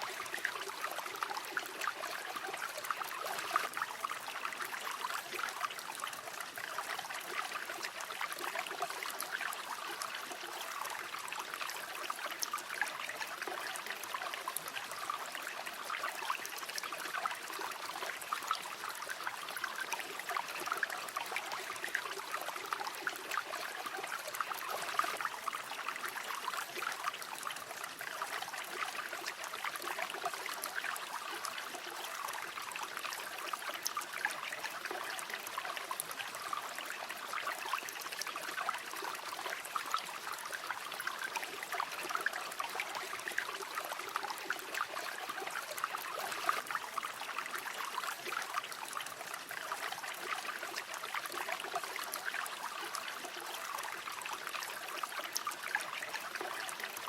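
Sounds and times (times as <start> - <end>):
water babbling over stones: 0.0 - 57.0.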